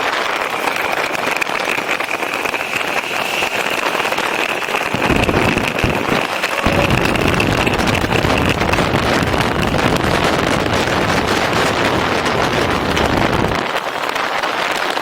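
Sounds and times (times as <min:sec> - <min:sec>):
motorcycle engine running: 0:00.0 - 0:14.1
wind noise on microphone: 0:00.0 - 0:15.0.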